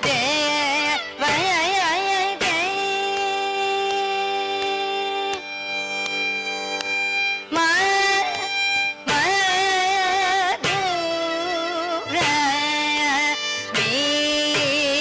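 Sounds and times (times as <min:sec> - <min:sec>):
person singing: 0:00.0 - 0:05.9, 0:07.3 - 0:15.0
violin: 0:00.0 - 0:15.0.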